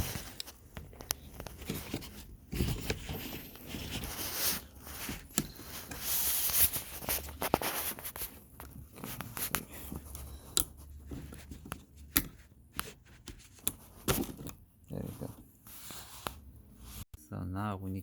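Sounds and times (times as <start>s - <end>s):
scraping and rustling: 0.0s - 17.1s.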